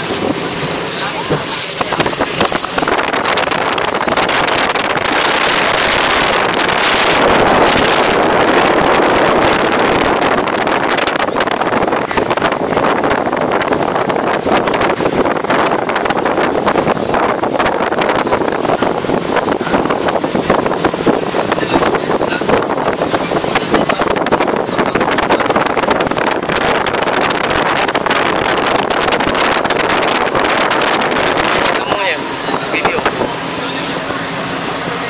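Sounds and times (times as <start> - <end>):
speedboat engine: 0.0 - 35.0
water rushing: 0.0 - 35.0
wind buffeting microphone: 0.0 - 35.0.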